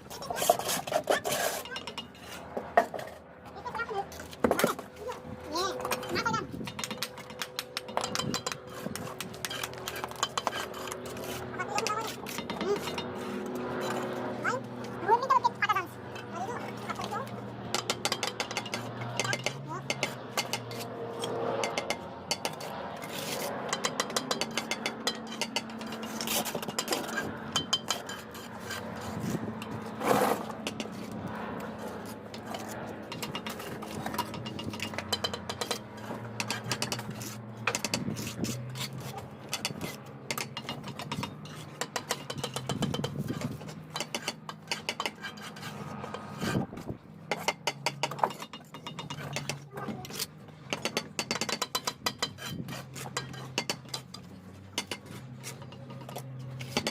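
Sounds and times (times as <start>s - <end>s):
trowel scraping mortar: 0.0s - 3.2s, 5.8s - 15.5s, 16.2s - 56.9s.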